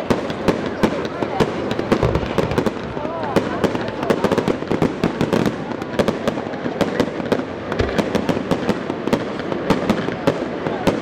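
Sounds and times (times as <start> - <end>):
fireworks bangs and crackles: 0.0 - 11.0
rumble of firework bursts: 0.0 - 11.0.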